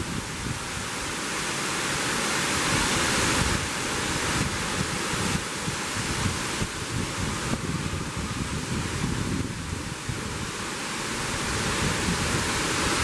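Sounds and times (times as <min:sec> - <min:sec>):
wind buffeting microphone: 0:00.0 - 0:01.3, 0:02.4 - 0:13.0
waterfall onto rocks: 0:00.0 - 0:13.0.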